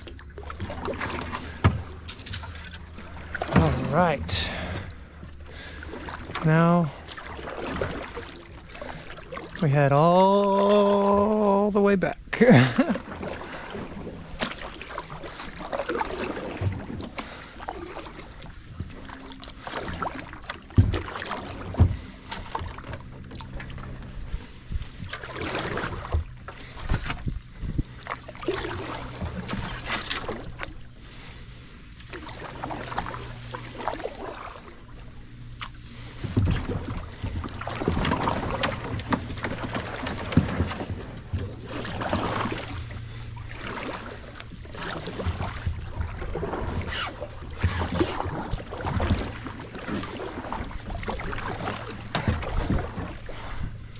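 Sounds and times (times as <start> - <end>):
paddle splashing through water: 0.0 - 11.6, 12.3 - 53.9.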